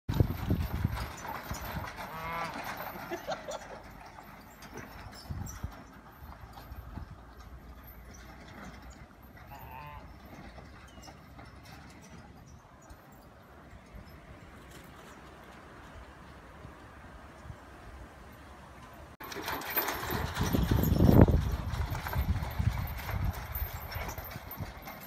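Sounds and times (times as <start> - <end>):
cart rattling: 0.1 - 16.3, 18.4 - 25.0
horse hooves clopping: 0.1 - 25.0.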